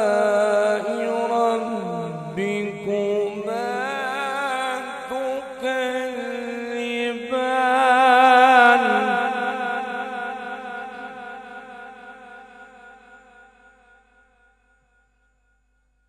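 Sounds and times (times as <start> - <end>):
man chanting melodically: 0.0 - 13.3.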